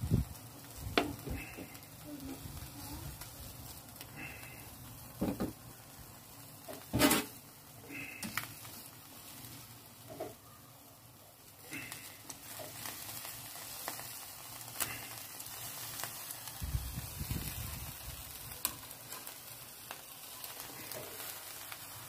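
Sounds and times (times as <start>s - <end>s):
meat sizzling on grill: 0.0s - 22.0s.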